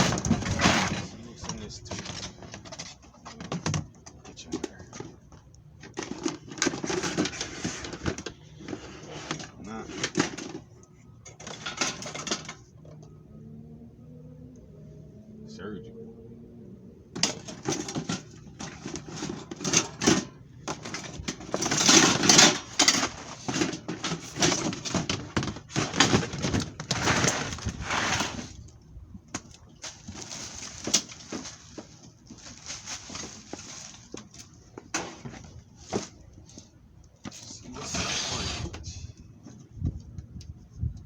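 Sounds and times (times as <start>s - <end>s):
items rustling and crinkling: 0.0s - 13.2s, 17.2s - 41.0s.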